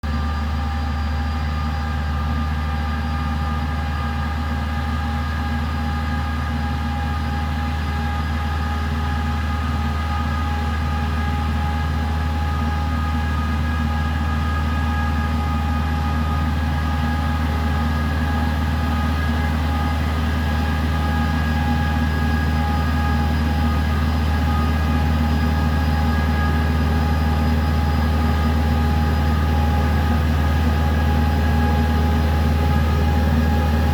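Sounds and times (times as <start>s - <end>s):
sprayer engine hum: 0.0s - 33.9s.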